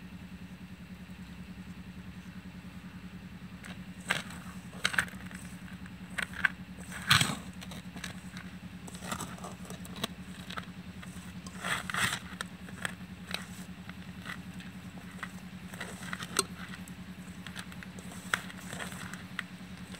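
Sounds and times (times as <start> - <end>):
steady low hum: 0.0 - 19.9
flour scraping in steel bowl: 3.7 - 19.9.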